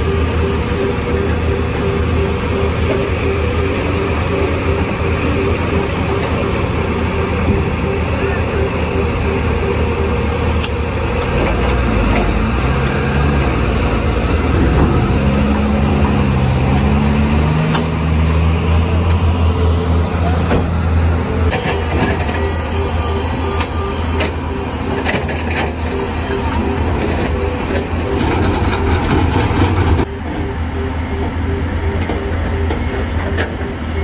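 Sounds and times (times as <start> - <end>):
heavy diesel engines rumbling: 0.0 - 34.0.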